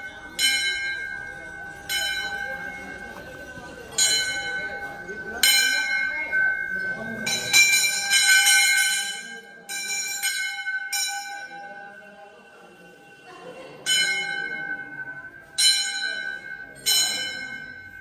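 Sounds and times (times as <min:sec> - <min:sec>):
temple bell ringing: 0:00.0 - 0:18.0.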